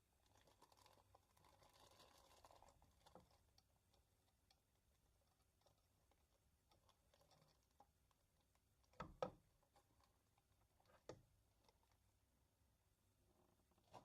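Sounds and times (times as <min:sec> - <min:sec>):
faint clicks and knocks: 0:00.2 - 0:12.2.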